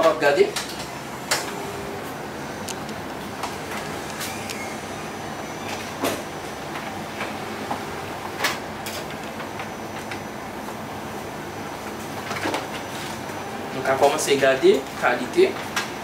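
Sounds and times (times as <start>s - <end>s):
printer whirring: 0.0s - 16.0s.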